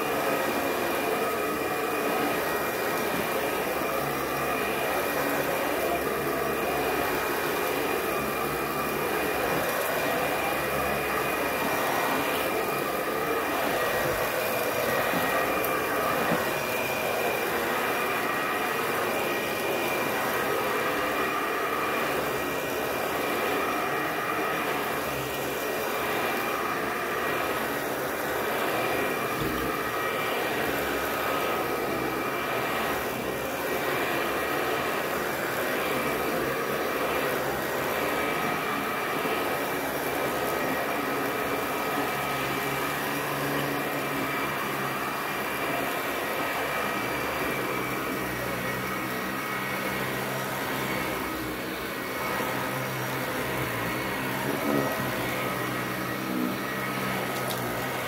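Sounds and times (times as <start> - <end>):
stick vacuum running: 0.0 - 58.0.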